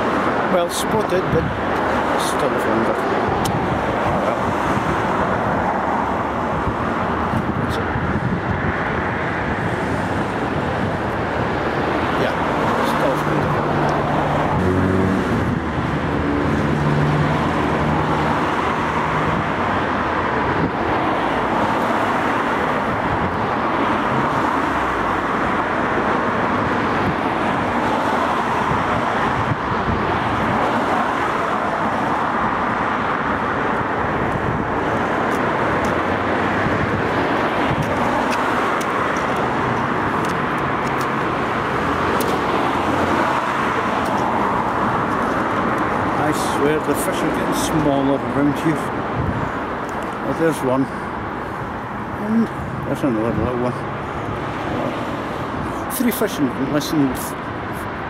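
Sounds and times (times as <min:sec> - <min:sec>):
road traffic rush: 0:00.0 - 0:58.0.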